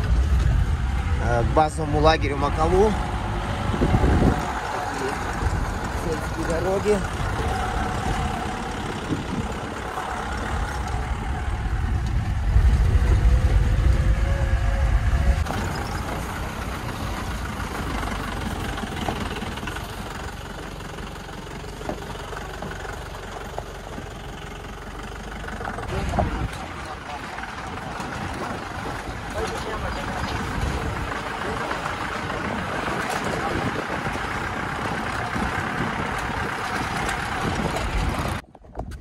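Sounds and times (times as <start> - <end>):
vehicle rumble on rough road: 0.0 - 39.0.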